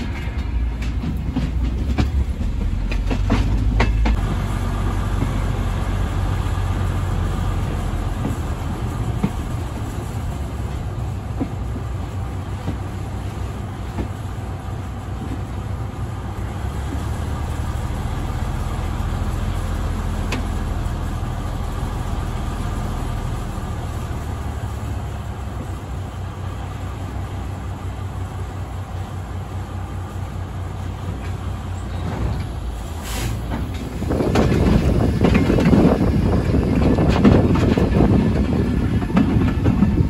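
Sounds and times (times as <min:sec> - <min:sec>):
diesel locomotive engine drone: 0:00.0 - 0:40.0
wheels rattling on rails: 0:00.0 - 0:40.0.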